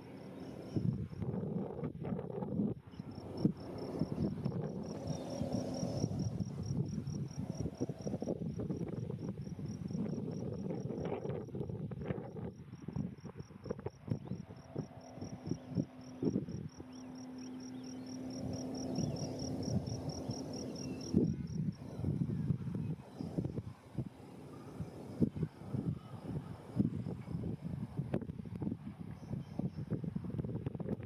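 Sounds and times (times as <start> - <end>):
cricket chirping: 0.0 - 31.0
wind rumble on microphone: 0.0 - 31.0.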